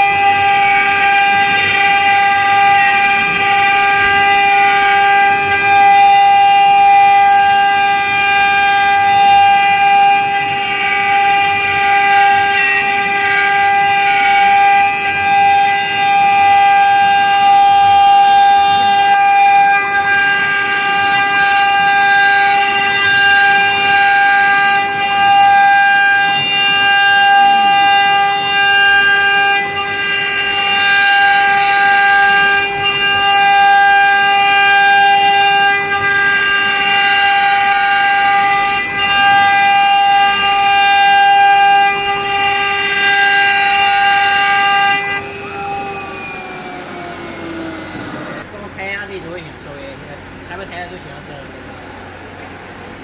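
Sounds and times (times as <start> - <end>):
engraving machine spindles whining: 0.0 - 49.5.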